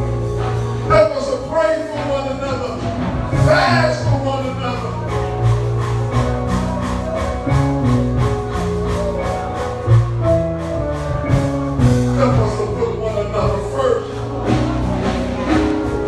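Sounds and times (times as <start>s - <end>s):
held instrumental notes: 0.0s - 16.0s
percussion beat: 0.0s - 16.0s.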